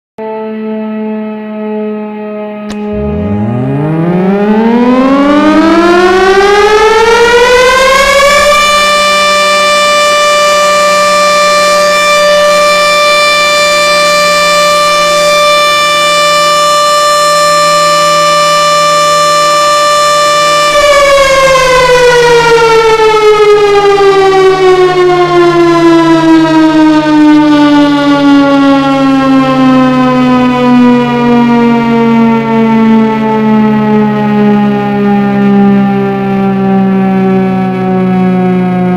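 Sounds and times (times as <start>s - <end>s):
motor-driven siren wailing: 0.2s - 38.9s.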